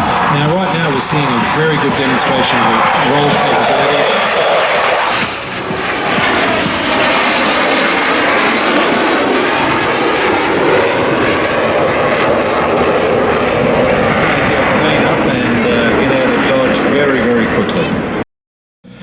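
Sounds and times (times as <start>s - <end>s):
loud jet noise: 0.0s - 18.2s.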